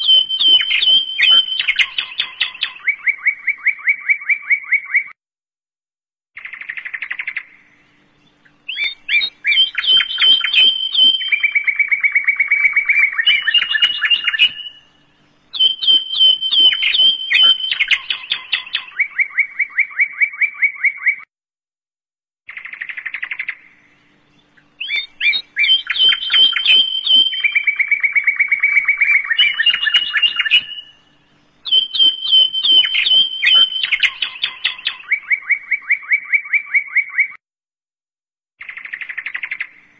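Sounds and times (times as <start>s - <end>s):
birds chirping and trilling: 0.0s - 5.2s, 6.4s - 21.3s, 22.5s - 37.4s, 38.6s - 39.9s.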